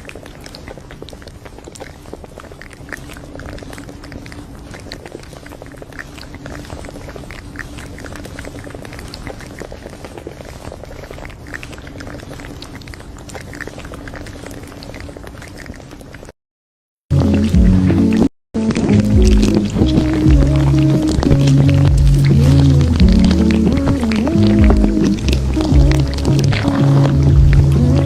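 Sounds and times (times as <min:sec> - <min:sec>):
faint steady hum: 0:00.0 - 0:16.3, 0:17.1 - 0:28.0
close-up chewing: 0:00.0 - 0:16.4, 0:17.1 - 0:28.0.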